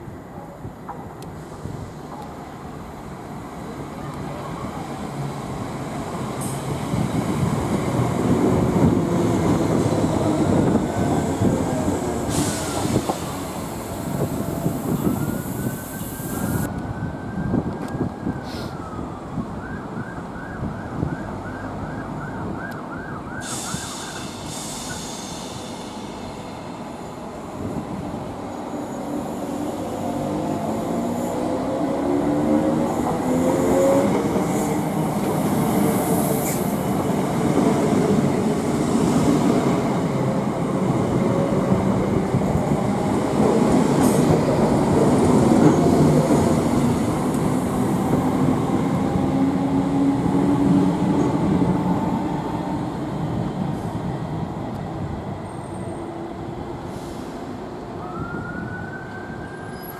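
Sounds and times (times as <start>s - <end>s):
electric train rumbling past: 0.0s - 16.7s, 23.6s - 58.4s.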